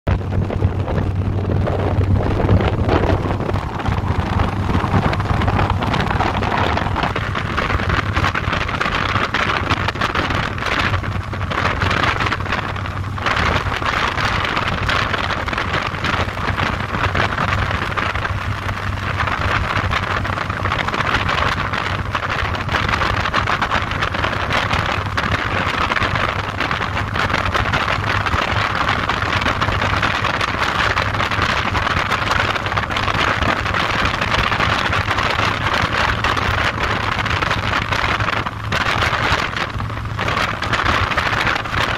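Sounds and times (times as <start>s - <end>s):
motorcycle engine humming: 0.0s - 41.9s
wind noise on microphone: 0.0s - 41.9s.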